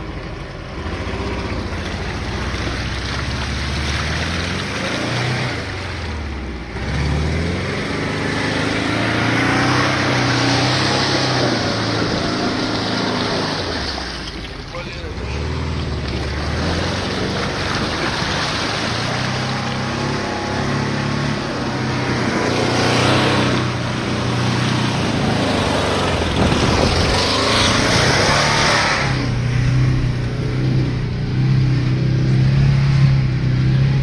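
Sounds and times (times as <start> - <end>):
car engine working hard: 0.0 - 34.0
muddy water splashing: 0.0 - 34.0.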